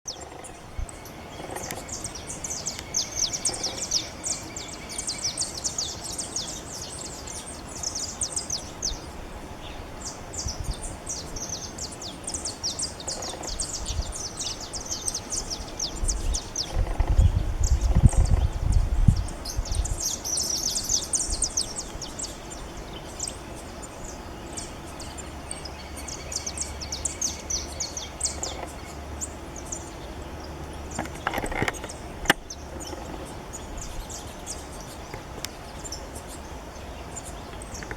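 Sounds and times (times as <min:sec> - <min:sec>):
finches twittering: 0:00.1 - 0:37.9.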